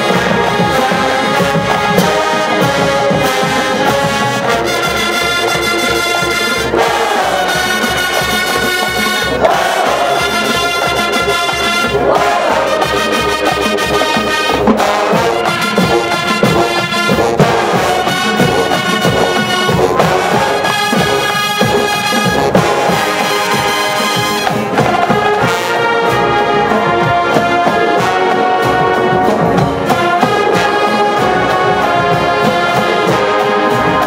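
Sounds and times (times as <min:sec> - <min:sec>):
brass playing sustained chords: 0:00.0 - 0:34.0
marching drum beat: 0:00.0 - 0:34.0.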